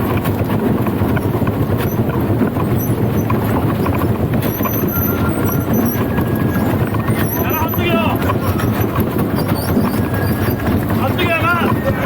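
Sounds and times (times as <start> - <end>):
festival float rumbling along street: 0.0 - 12.0
footsteps of pullers: 0.0 - 12.0.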